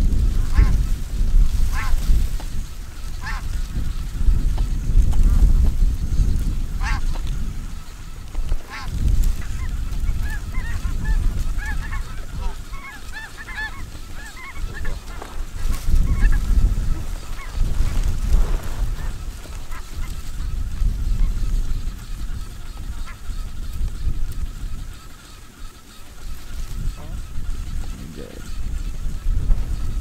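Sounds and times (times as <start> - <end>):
geese honking: 0.2 - 4.7, 5.9 - 30.0.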